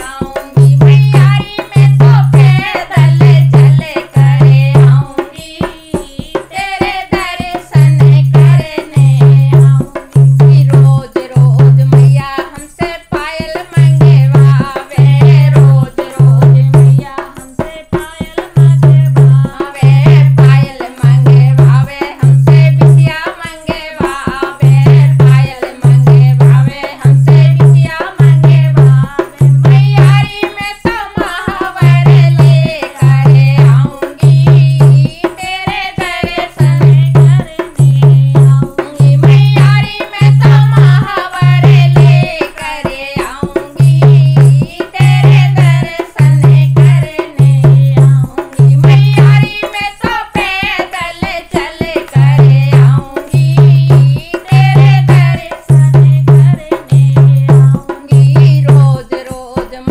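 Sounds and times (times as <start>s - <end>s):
women singing devotional song: 0.0s - 59.9s.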